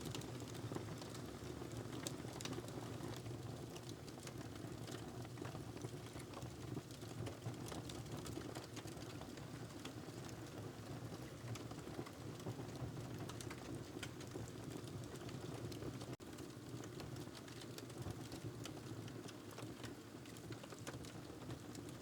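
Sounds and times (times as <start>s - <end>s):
wood fire crackling and popping: 0.1s - 10.6s, 11.2s - 22.0s.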